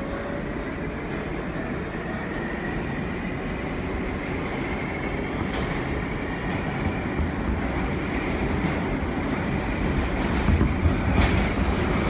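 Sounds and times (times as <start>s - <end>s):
rumble of wheels on rail: 0.0s - 12.0s.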